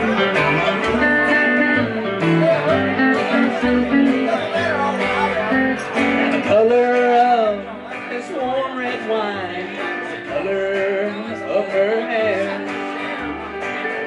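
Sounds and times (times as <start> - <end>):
electric and acoustic guitars: 0.0 - 14.0
plucked upright bass: 0.0 - 14.0.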